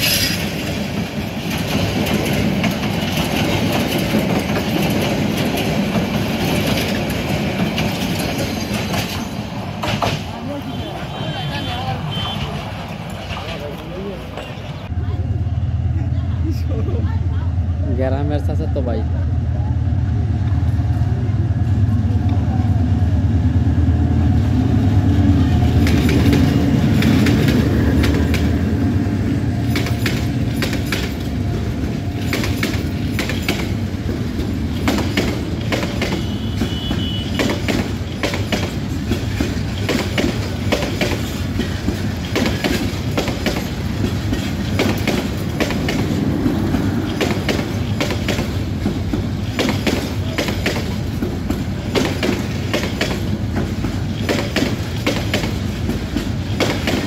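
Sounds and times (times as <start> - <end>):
clickety-clack of wheels over rail joints: 0.0 - 15.0, 20.4 - 57.0
diesel locomotive engine rumble: 0.0 - 57.0.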